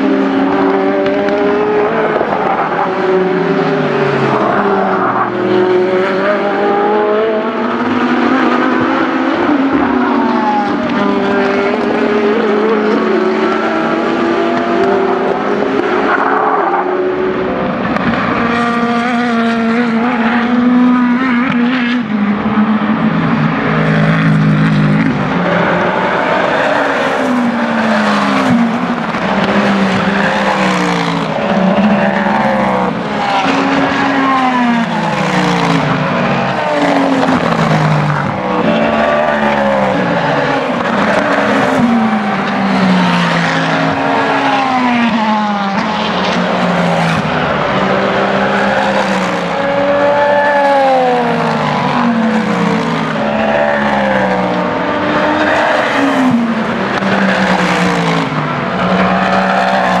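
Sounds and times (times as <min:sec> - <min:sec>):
race cars passing: 0:00.0 - 1:00.0.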